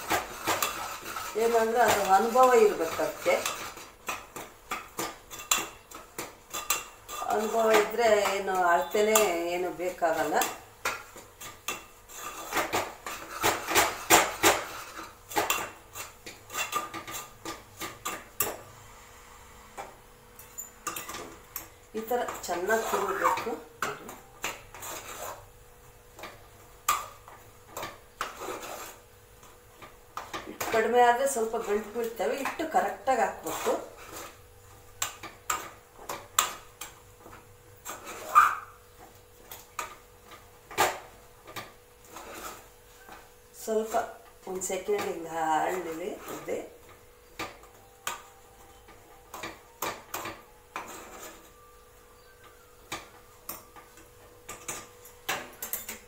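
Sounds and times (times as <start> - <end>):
metal spoon scraping a pot: 0.0 - 18.9, 19.7 - 56.0.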